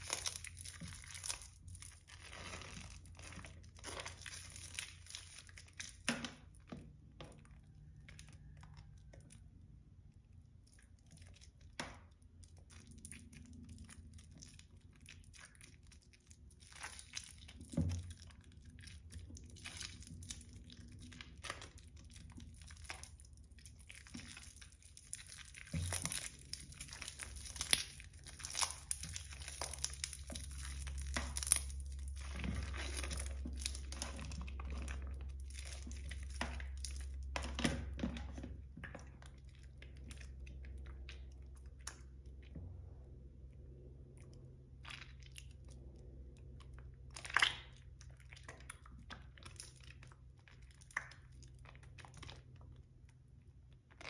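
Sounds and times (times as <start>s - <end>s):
wet soap crackling and tearing: 0.0s - 54.0s.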